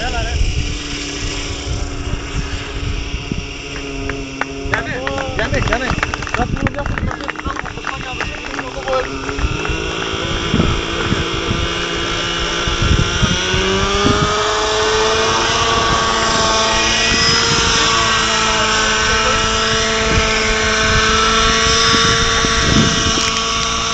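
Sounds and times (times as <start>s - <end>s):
model helicopter rotor whine: 0.0s - 23.9s.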